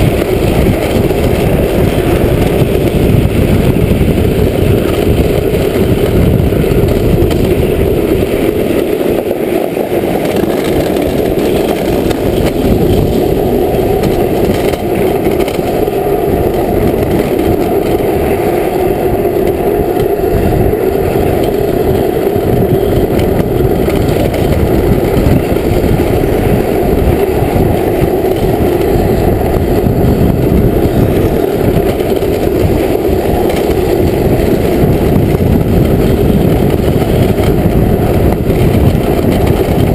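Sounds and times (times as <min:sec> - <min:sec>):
wheels rolling on asphalt: 0:00.0 - 0:39.9
wind on microphone: 0:00.0 - 0:39.9.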